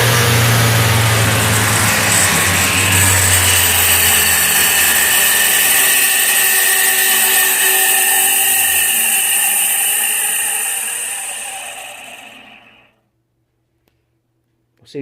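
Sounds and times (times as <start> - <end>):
low hum: 0.0 - 12.9
alternator high whine: 0.0 - 13.0.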